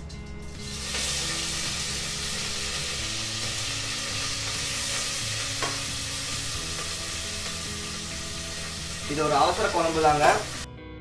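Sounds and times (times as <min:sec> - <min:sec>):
onion sizzling in hot oil: 0:00.0 - 0:10.7.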